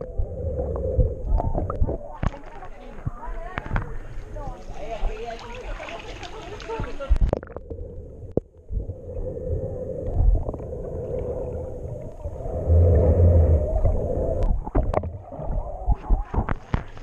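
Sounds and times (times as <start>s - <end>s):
underwater rumble of kicking swimmers: 0.0s - 17.0s.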